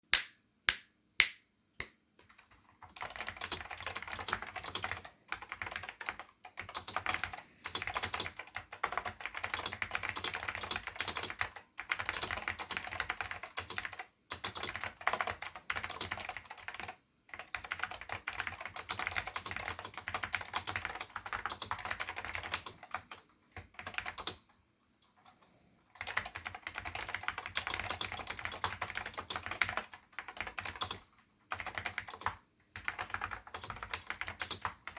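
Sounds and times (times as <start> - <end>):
fast typing on a keyboard: 2.2 - 34.9.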